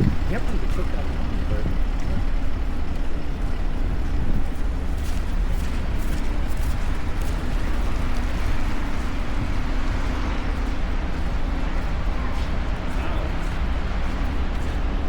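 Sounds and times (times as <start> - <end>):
street noise: 0.0 - 15.0
wind buffeting microphone: 0.0 - 15.0.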